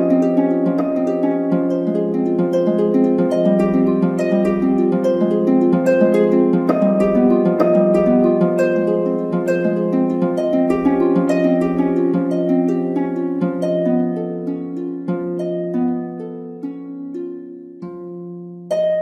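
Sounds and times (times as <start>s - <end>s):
plucked string music: 0.0s - 19.0s.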